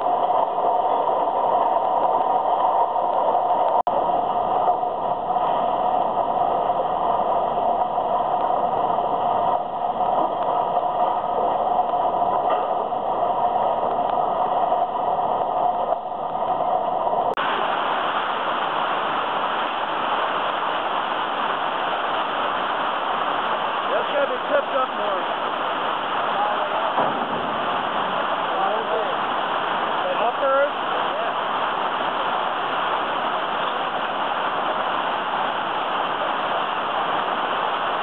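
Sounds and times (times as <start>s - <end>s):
conveyor belts and motors running: 0.0s - 38.0s.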